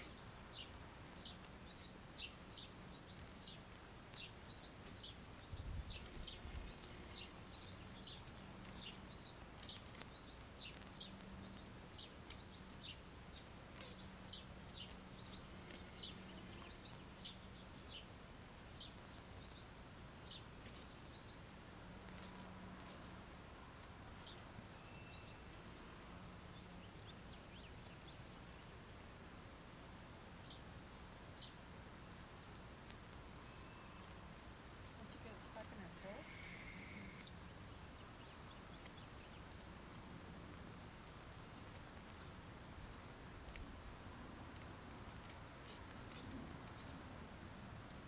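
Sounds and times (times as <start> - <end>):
bird chirping: 0.0 - 28.9, 30.4 - 30.7, 31.3 - 32.6, 33.4 - 43.8, 44.6 - 47.2
outdoor background noise: 0.0 - 48.0.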